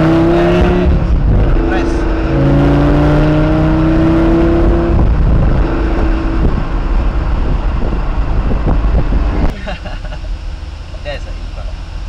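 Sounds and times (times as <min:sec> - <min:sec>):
road and wind rumble: 0:00.0 - 0:12.0
sports car engine accelerating: 0:00.0 - 0:12.0.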